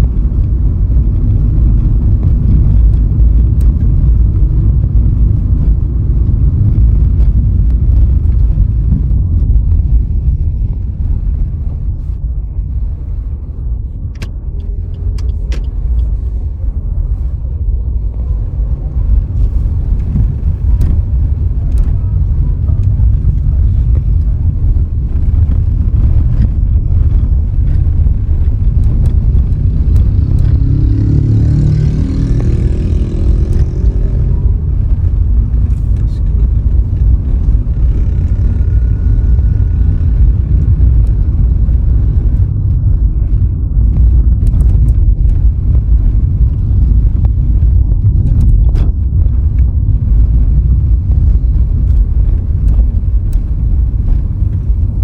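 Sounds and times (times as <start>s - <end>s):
car road and wind noise: 0.0s - 55.0s
louder engine sound: 0.0s - 55.0s.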